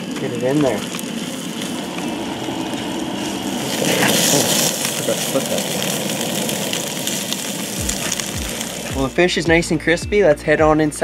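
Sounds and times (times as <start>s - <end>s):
fish sizzling in frying pan: 0.0s - 9.5s.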